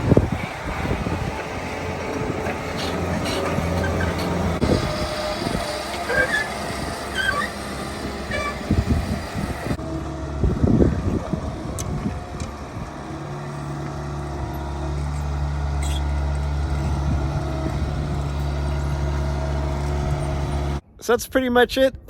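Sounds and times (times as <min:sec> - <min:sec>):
skid steer diesel engine running: 0:00.0 - 0:20.8.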